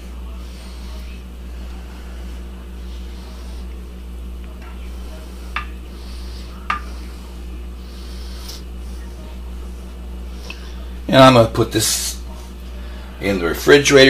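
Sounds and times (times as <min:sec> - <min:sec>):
low hum: 0:00.0 - 0:13.8.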